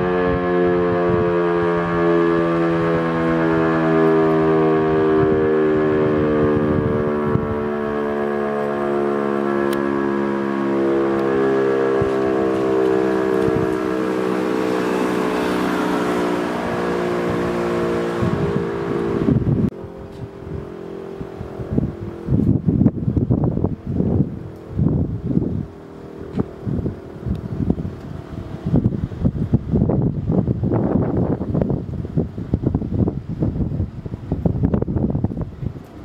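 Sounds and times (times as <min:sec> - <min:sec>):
siren winding down: 0:00.0 - 0:29.4
wind gusting on microphone: 0:00.0 - 0:36.0.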